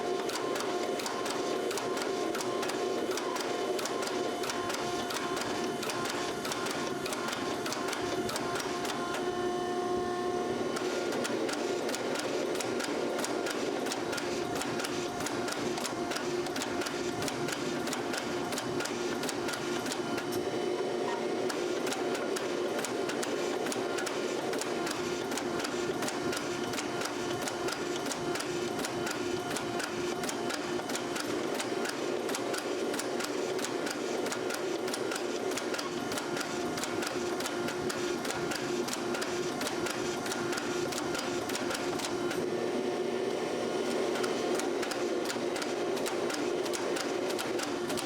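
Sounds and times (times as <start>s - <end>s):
workshop machine humming: 0.0s - 48.0s.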